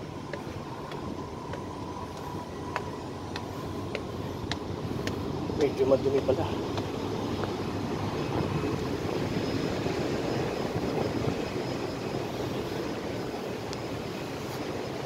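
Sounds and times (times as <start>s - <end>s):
faint high whine: 0.0s - 15.0s
rushing drone of ship machinery: 0.0s - 15.0s.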